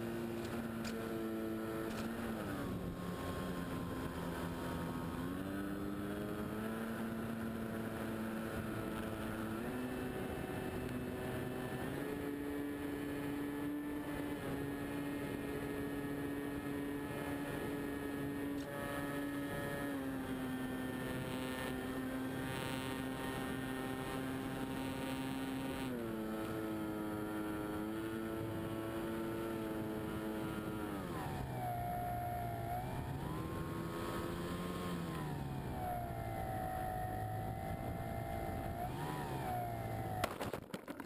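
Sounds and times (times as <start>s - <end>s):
model plane motor and propeller: 0.0s - 41.0s.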